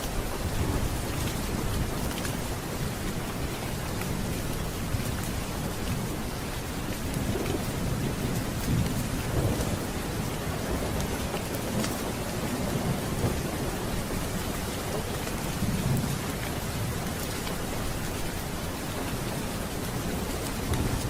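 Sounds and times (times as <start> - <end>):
steady rain: 0.0 - 21.0
low thunder rumbling: 0.2 - 21.0.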